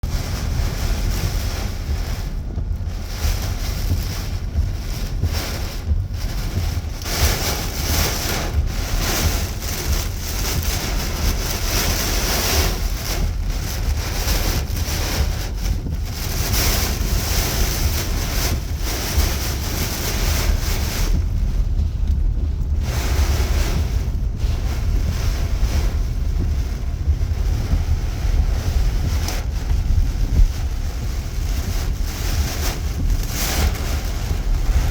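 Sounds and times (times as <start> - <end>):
heavy rain pouring: 0.0 - 34.9
wind rumbling on microphone: 0.0 - 34.9.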